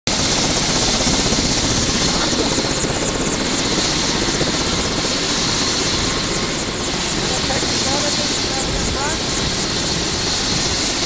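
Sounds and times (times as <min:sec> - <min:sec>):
helicopter engine and rotors roaring: 0:00.1 - 0:11.0
high turbine whine: 0:00.1 - 0:11.0.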